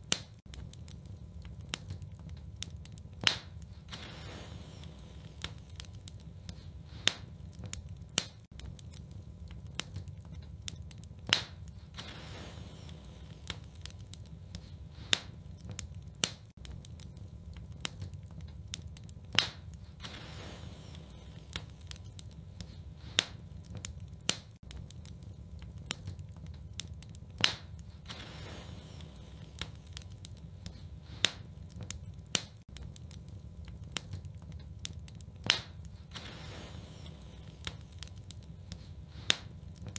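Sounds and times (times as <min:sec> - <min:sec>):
fire popping: 0:00.0 - 0:39.9
wood fire crackling: 0:00.0 - 0:39.9
low rumble: 0:00.5 - 0:39.9.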